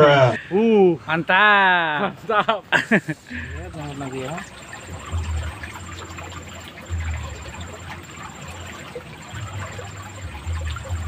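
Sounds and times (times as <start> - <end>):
ditch water rushing: 2.1 - 11.0.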